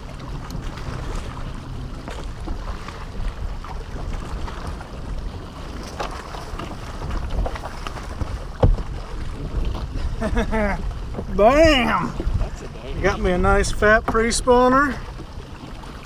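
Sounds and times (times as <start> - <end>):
boat low rumble: 0.0 - 16.0
wind on microphone: 0.0 - 16.0.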